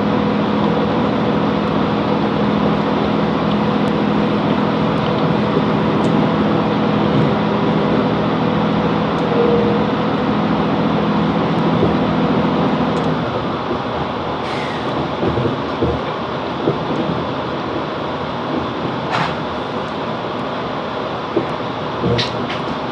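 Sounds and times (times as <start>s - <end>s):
train diesel engine running: 0.0s - 22.9s
wheel and track rumble: 0.0s - 22.9s.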